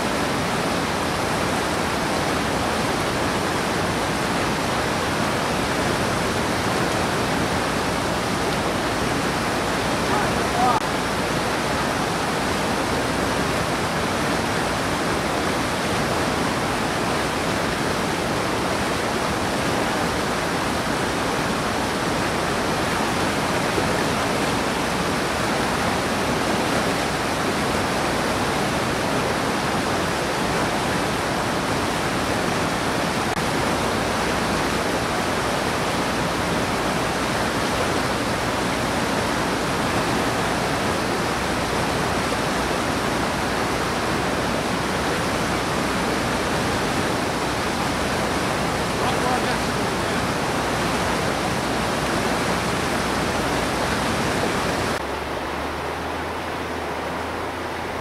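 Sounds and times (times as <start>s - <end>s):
whitewater rapids rushing: 0.0s - 58.0s.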